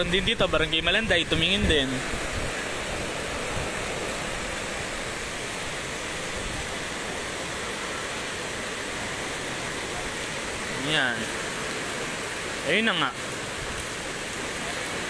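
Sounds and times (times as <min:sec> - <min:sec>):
strong wind: 0:00.0 - 0:12.5
fast-flowing river rushing: 0:00.0 - 0:15.0.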